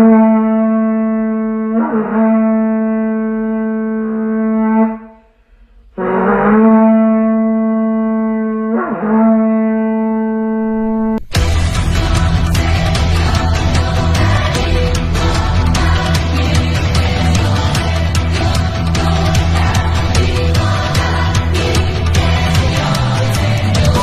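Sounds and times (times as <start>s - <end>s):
horn blowing long low notes: 0.0s - 24.0s.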